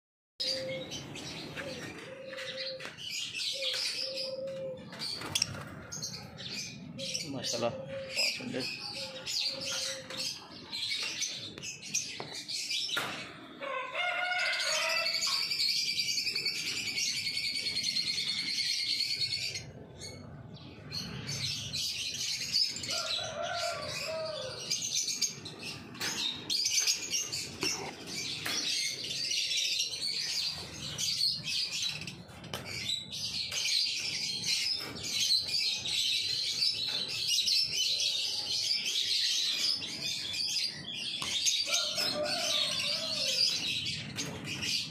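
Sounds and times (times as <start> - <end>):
lovebirds chirping and chattering: 0.4 - 44.9.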